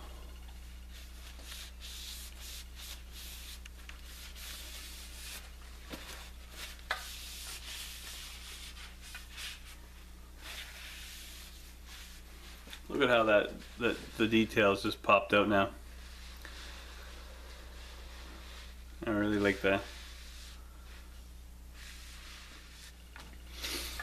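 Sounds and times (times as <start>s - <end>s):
cloth rubbing on wood: 0.6s - 14.9s, 15.8s - 24.0s.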